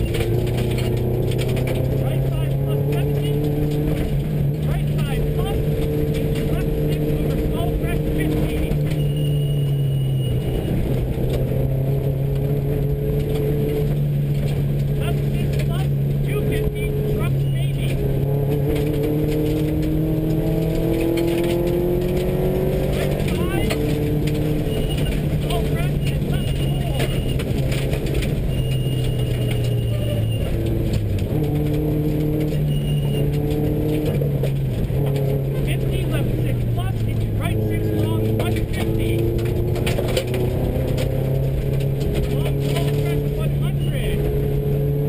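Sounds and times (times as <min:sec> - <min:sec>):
car engine running: 0:00.0 - 0:45.0
tyre and gravel road noise: 0:00.0 - 0:45.0.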